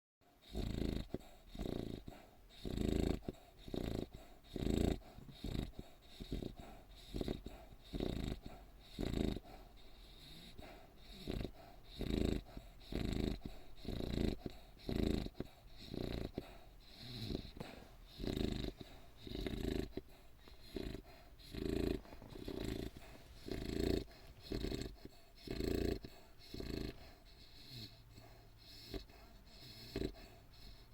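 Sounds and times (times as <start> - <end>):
dog snoring: 0.3 - 30.9.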